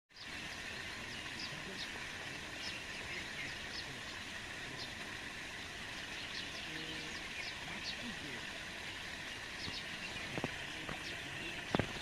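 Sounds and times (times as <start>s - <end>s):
small birds chirping: 0.1s - 12.0s
steady outdoor hiss: 0.1s - 12.0s.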